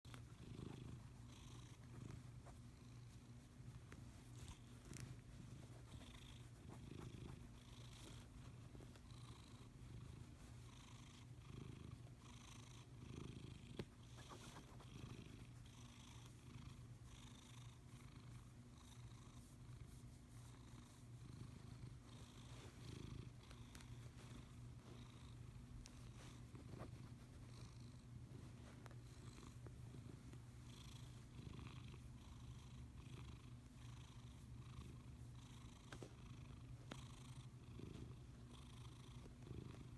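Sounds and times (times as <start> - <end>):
cat purring: 0.1 - 39.9.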